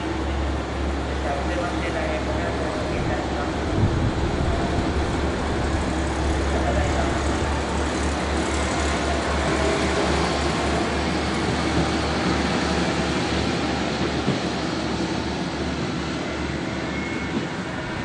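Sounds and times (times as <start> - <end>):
diesel train engine rumble: 0.0 - 18.0.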